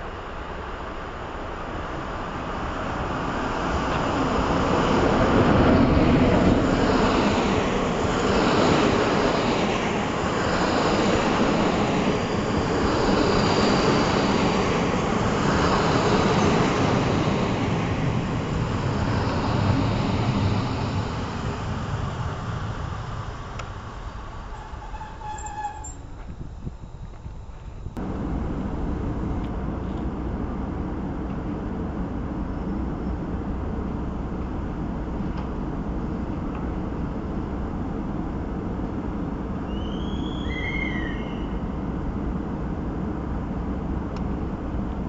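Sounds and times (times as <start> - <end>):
train rolling past: 0.0 - 45.0.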